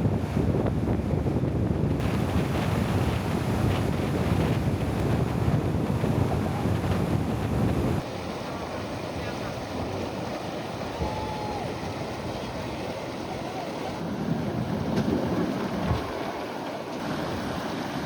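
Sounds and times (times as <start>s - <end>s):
wind buffeting microphone: 0.0s - 16.6s.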